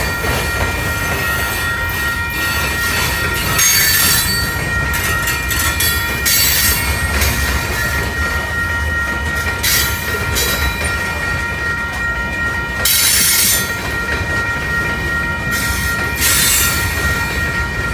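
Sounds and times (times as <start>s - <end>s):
high ringing tone: 0.0s - 17.9s
train wheels rumbling on rail: 0.0s - 17.9s.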